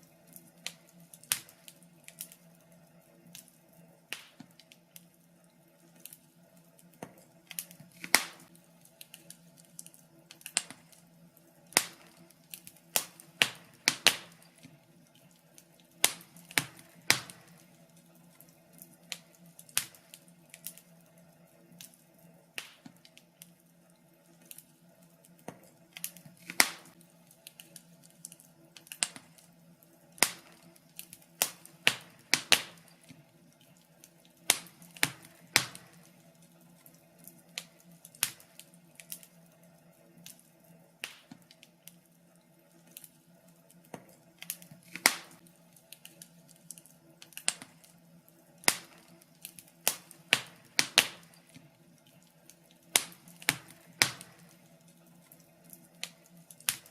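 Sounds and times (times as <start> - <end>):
faint steady low hum: 0.0 - 56.9
wood fire crackling: 0.0 - 56.9.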